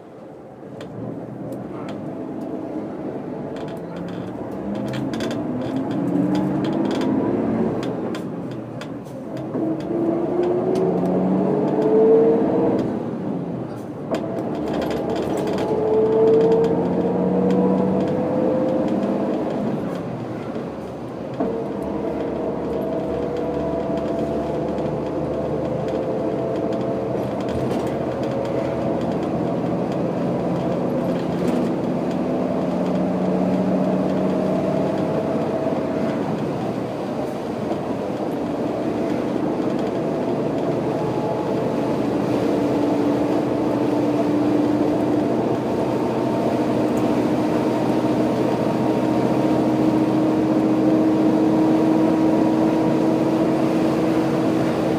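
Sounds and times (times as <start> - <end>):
bus diesel engine pulling: 0.0 - 54.9.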